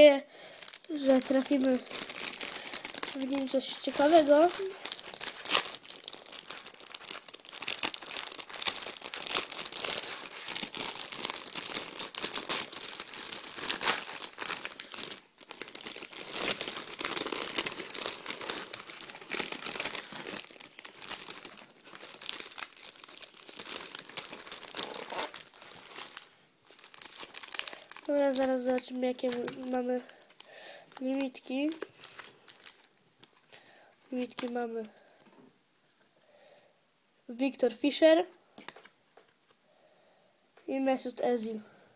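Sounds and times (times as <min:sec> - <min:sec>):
plastic wrapping crinkling: 0:00.0 - 0:35.0.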